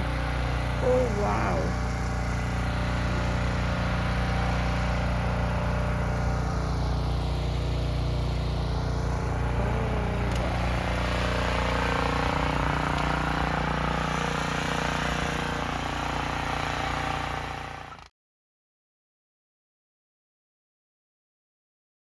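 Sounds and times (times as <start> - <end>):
snow blower engine running: 0.0 - 18.1.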